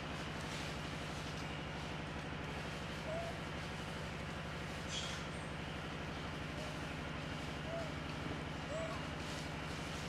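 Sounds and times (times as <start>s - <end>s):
pulsing low motor rumble: 0.0s - 10.0s.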